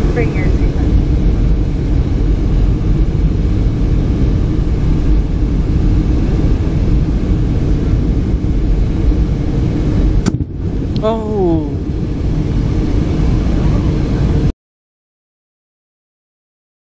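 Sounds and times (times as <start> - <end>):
jet engine cabin rumble: 0.0 - 14.5.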